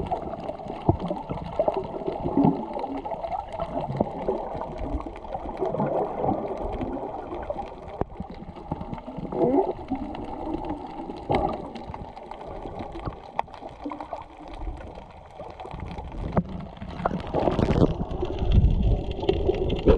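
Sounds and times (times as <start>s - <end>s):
muffled underwater water noise: 0.0s - 19.9s.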